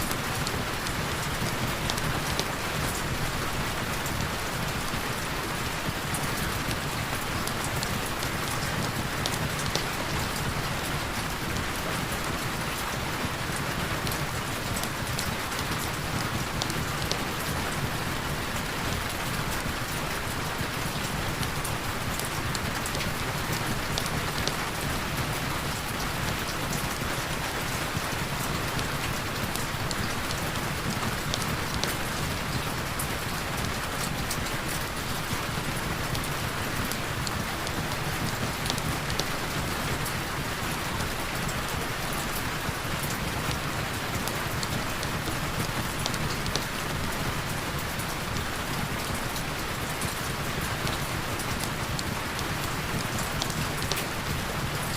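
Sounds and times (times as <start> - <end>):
raindrops ticking close by: 0.0 - 54.9.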